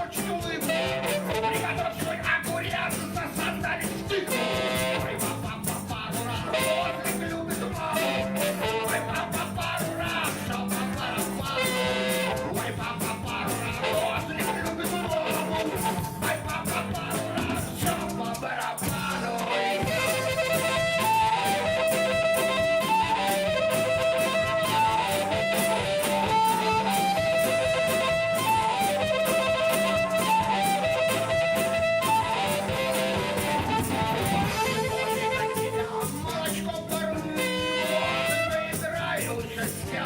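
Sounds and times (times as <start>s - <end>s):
drums keeping steady beat: 0.0s - 40.0s
live rock band playing: 0.0s - 40.0s
melodic guitar lead line: 0.0s - 40.0s.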